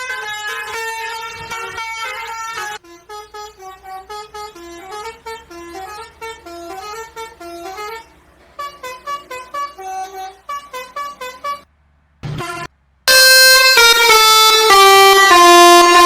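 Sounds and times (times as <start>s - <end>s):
multi-tone bus horn tune: 0.0s - 16.0s.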